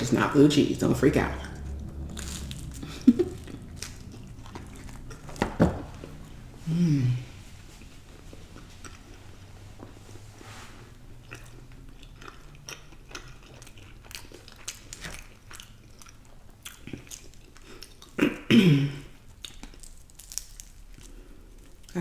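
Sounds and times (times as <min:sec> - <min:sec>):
chewing with mouth clicks: 0:01.4 - 0:06.3, 0:07.5 - 0:10.2, 0:10.9 - 0:18.3, 0:19.2 - 0:22.0.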